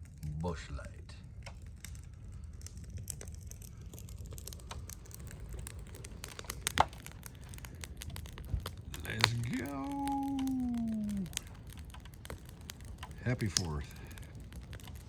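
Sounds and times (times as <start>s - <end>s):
small clicks: 1.3s - 15.0s.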